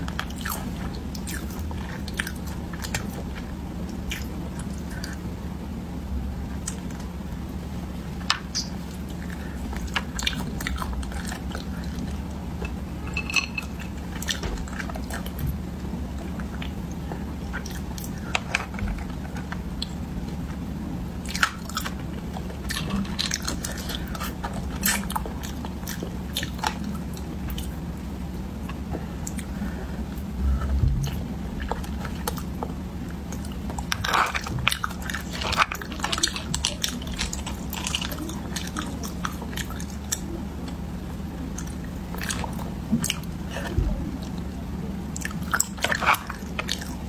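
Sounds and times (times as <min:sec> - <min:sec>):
chewing and wet mouth sounds: 0:00.0 - 0:05.5, 0:06.4 - 0:47.0.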